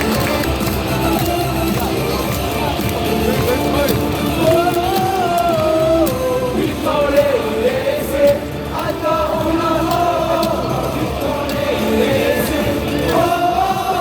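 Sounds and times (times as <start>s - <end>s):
amplified stadium music: 0.0s - 14.0s
crowd singing a cheer song: 0.0s - 14.0s.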